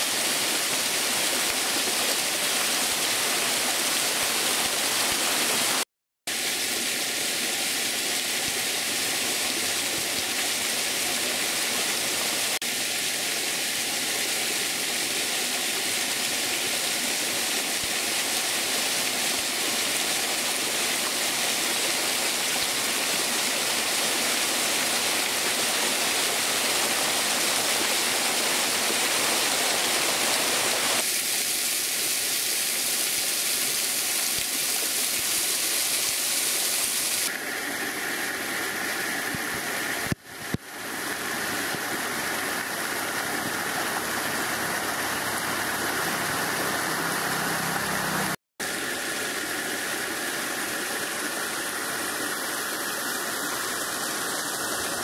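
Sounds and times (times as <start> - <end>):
stream cascading over rocks: 0.0 - 55.0.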